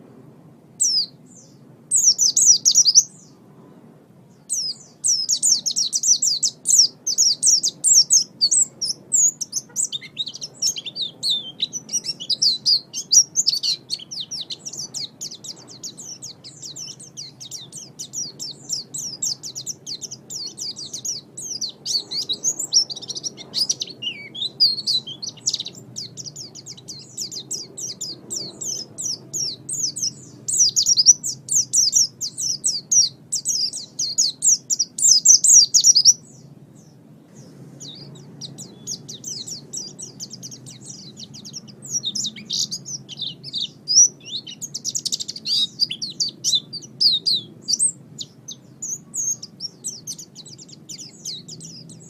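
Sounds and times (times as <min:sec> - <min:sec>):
songbird chirping and trilling: 0:00.6 - 0:52.0.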